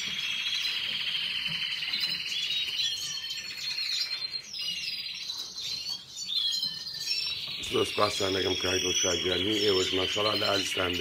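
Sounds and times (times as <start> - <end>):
canaries singing: 0.0 - 11.0.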